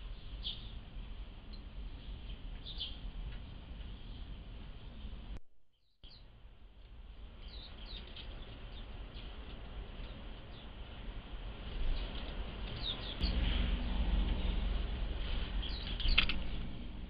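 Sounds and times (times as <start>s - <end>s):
small birds chirping: 0.0s - 0.8s, 1.5s - 5.2s, 5.8s - 6.4s, 7.2s - 17.0s
low background rumble: 0.0s - 5.4s, 6.0s - 17.0s.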